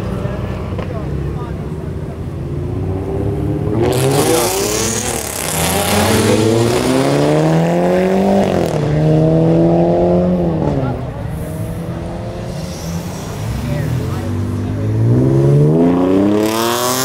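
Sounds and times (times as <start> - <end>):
car engine revving: 0.0 - 17.0
loud exhaust noise: 1.4 - 17.0.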